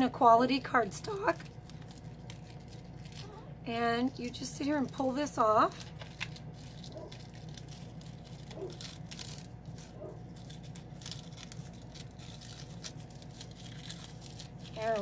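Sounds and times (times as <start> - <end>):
steady low hum: 0.0 - 15.0
plastic wrap crinkling: 0.4 - 15.0.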